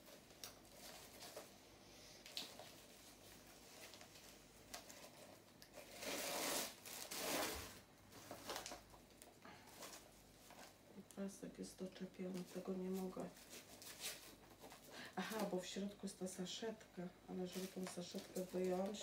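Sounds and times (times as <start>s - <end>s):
plastic packing rustling: 0.0s - 1.6s, 2.2s - 11.2s, 12.1s - 16.0s, 17.3s - 19.0s.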